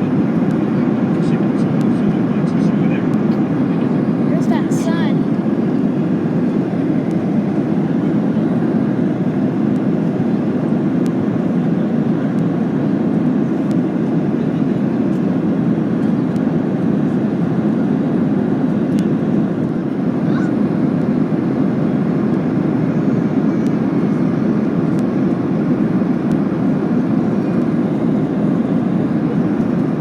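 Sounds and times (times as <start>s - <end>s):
airplane cabin noise: 0.0s - 30.0s.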